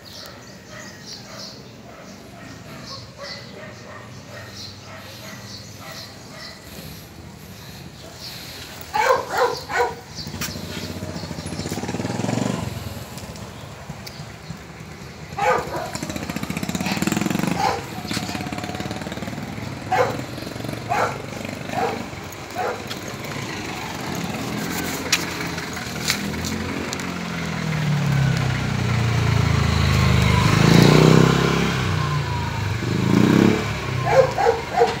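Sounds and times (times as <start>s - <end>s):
motor vehicle passing: 0.1s - 35.0s.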